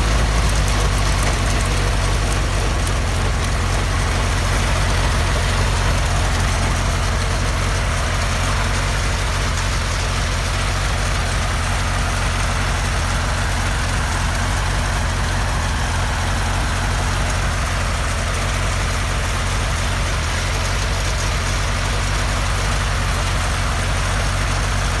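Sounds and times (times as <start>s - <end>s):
helicopter engine running: 0.0s - 25.0s.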